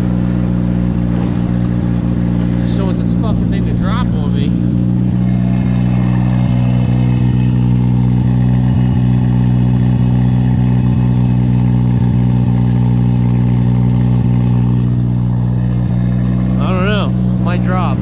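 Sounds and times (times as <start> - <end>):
wood chipper engine droning: 0.0 - 18.0.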